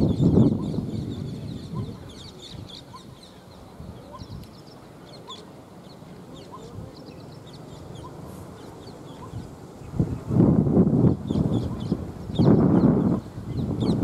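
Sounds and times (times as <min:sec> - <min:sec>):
birds chirping: 0:00.0 - 0:10.3, 0:11.0 - 0:14.0.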